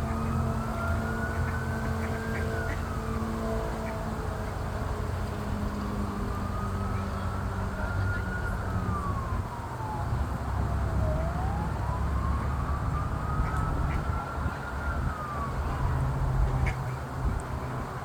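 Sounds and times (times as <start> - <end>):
emergency vehicle siren wailing: 0.0 - 18.0.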